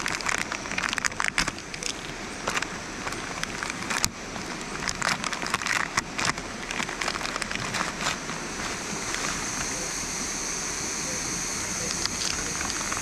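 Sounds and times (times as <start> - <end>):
river rushing: 0.0 - 13.0
sharp crackles and clicks: 0.0 - 13.0.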